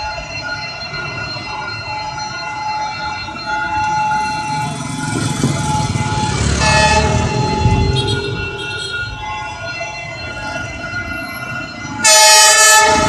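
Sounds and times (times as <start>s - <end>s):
high-pitched warning tone: 0.0s - 13.0s
locomotive engine rumble: 1.0s - 12.0s.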